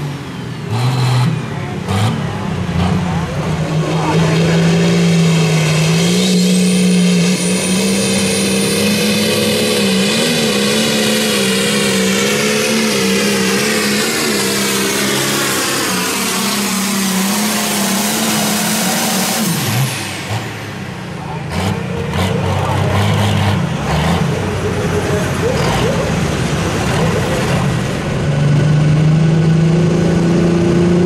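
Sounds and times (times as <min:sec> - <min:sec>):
diesel tractor engine at full throttle: 0:00.0 - 0:31.0.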